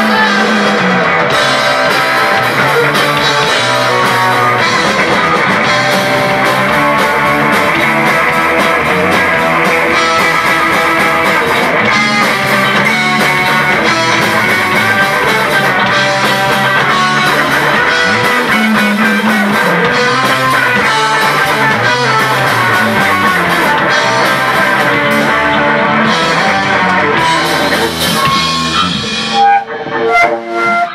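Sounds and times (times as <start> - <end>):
bass guitar: 0.0 - 30.9
drum kit: 0.0 - 30.9
electric guitar: 0.0 - 30.9.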